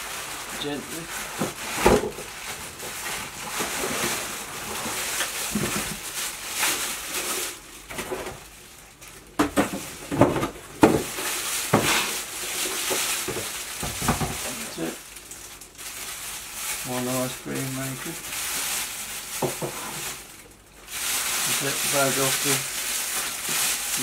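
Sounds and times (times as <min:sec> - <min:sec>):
cardboard and polystyrene scraping: 0:00.0 - 0:24.0
plastic bag rustling: 0:00.0 - 0:24.0.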